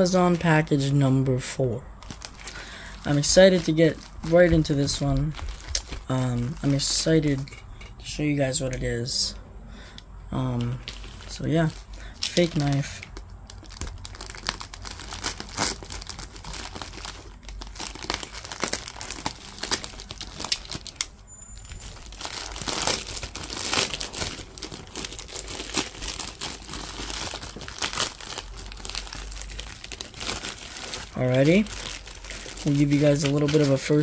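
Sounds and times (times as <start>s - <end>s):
plastic mailer crinkling: 0.0s - 8.2s, 10.4s - 34.0s.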